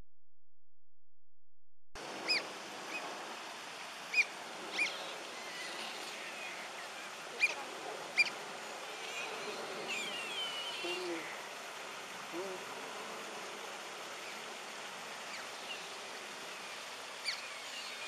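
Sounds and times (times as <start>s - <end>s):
steady background hiss: 2.0s - 18.0s.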